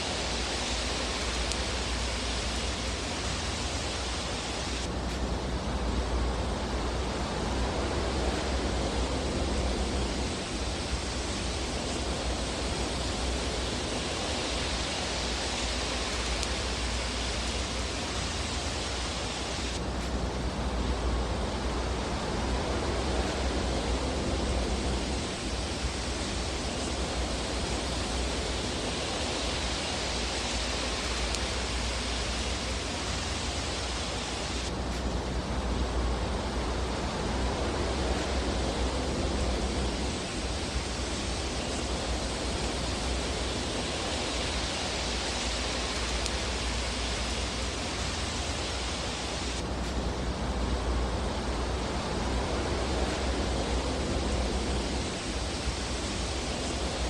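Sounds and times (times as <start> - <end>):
fireplace fire hissing: 0.0 - 57.0.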